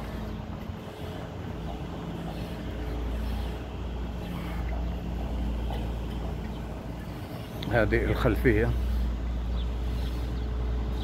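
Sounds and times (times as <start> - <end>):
low rumble with faint hum: 0.0 - 11.0.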